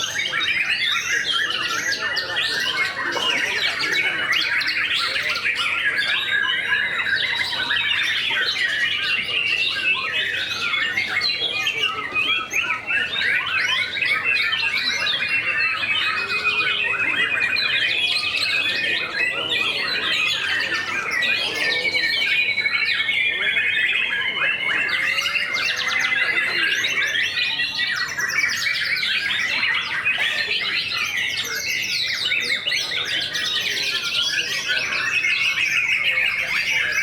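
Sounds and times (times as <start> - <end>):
long wavering bird trill: 0.0 - 37.0
many birds singing: 0.0 - 37.0.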